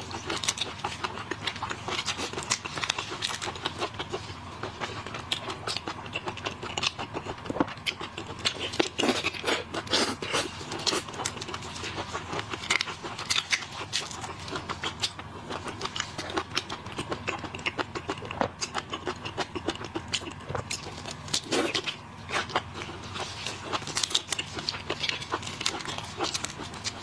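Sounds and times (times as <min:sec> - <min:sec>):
shellfish being peeled and chewed: 0:00.0 - 0:27.0.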